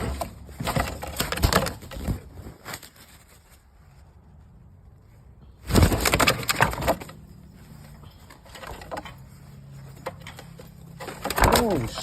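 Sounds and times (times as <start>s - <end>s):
wings flapping and scuffling: 0.0s - 4.9s, 5.6s - 12.0s
soft rustles: 0.0s - 12.0s.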